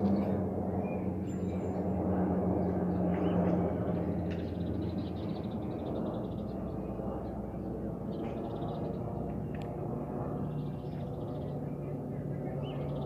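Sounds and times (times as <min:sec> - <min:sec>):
aircraft rumble overhead: 0:00.0 - 0:13.0.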